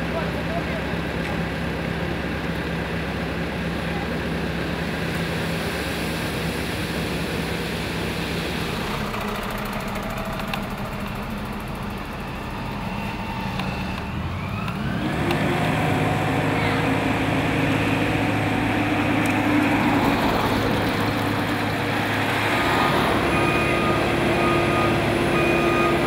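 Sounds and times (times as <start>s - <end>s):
heavy machinery engine drone: 0.0s - 26.0s.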